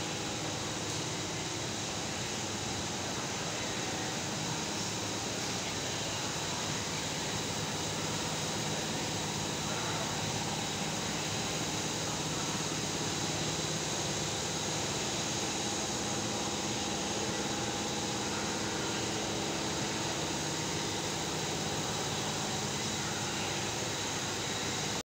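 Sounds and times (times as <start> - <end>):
machinery and ventilation hum: 0.0 - 25.0.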